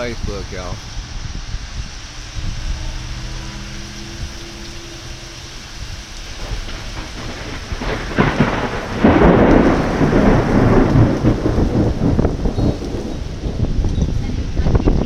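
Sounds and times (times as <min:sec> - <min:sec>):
heavy rain: 0:00.0 - 0:15.0
thunder crack and rumble: 0:00.0 - 0:15.0.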